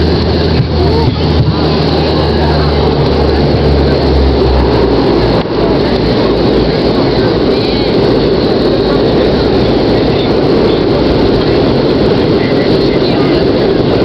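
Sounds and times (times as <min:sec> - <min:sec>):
air and wheels rushing: 0:00.0 - 0:14.0
turboprop engines: 0:00.0 - 0:14.0.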